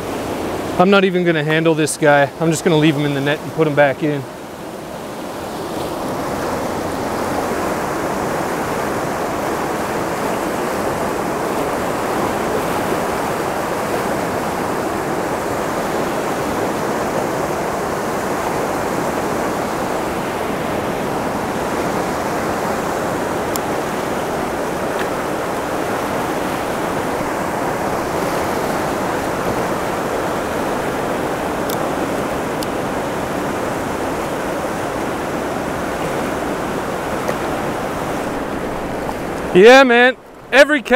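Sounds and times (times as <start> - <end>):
whitewater river roaring: 0.0 - 40.9.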